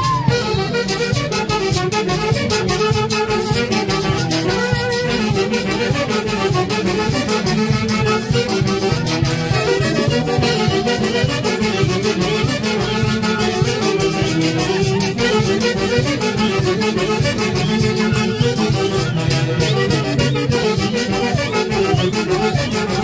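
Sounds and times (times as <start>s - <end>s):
folk band playing quick beat: 0.0s - 23.0s.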